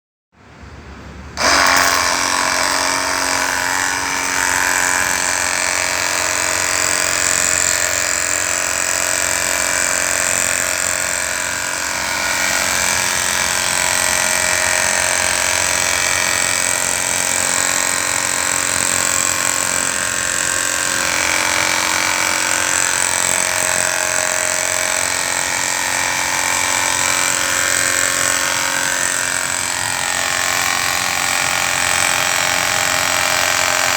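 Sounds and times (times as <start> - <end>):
small motor whining: 1.4 - 33.9.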